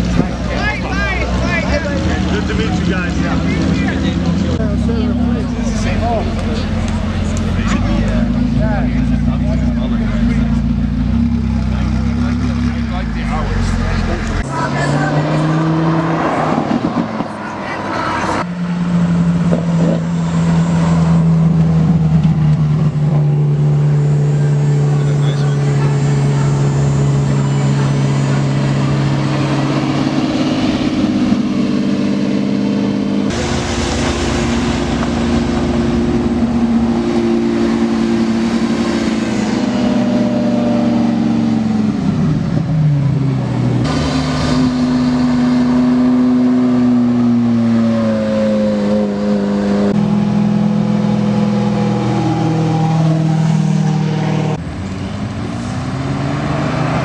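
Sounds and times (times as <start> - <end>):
sports car engines running: 0.0 - 57.0.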